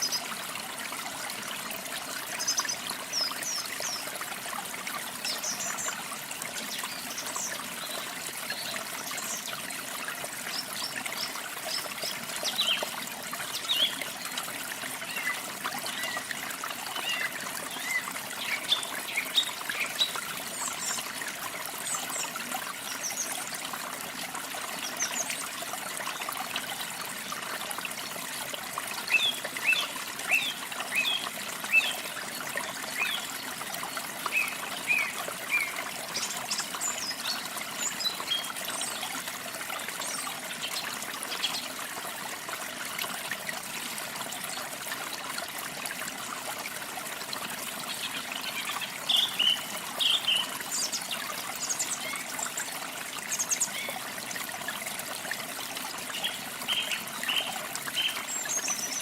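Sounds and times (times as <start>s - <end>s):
trickle of running water: 0.0s - 59.0s.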